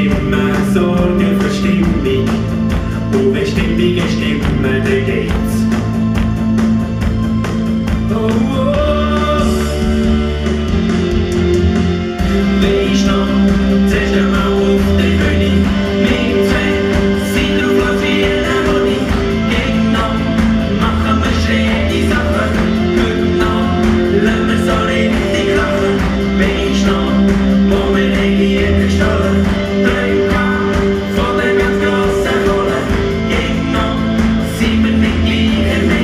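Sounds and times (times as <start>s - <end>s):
upbeat pop-rock song: 0.0s - 36.0s.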